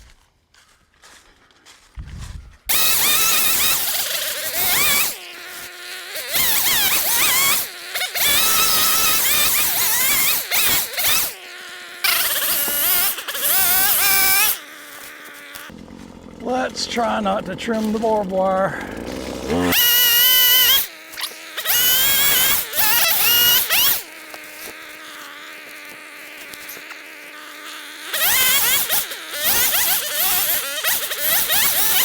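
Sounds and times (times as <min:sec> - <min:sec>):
power saw cutting tree limbs: 0:02.7 - 0:32.0.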